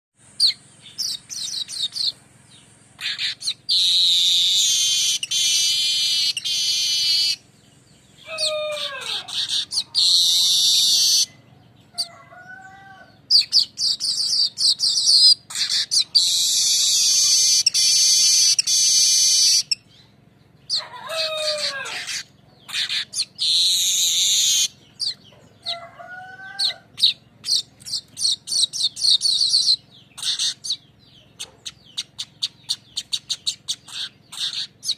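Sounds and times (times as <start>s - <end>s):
bird buzzy trills: 0.2s - 34.9s.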